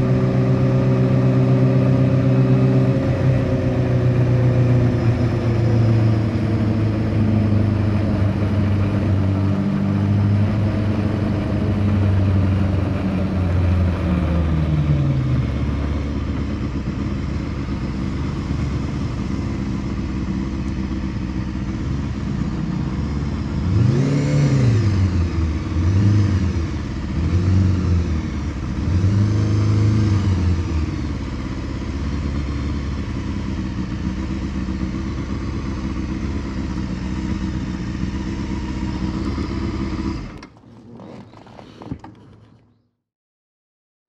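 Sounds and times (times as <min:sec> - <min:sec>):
motorcycle engine revving: 0:00.0 - 0:42.5.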